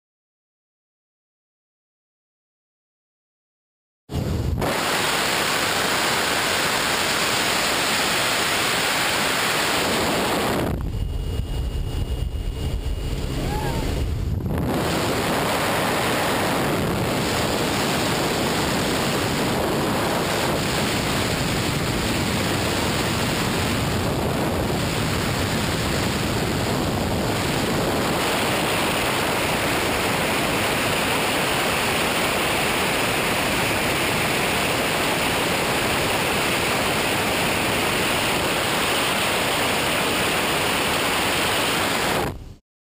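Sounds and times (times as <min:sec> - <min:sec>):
wind blasting the microphone: 0:04.1 - 0:42.5.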